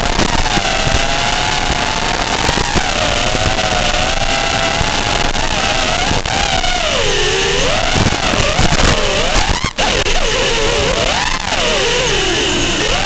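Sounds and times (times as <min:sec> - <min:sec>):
drone motors whining: 0:00.0 - 0:13.0
wind hiss: 0:00.0 - 0:13.0.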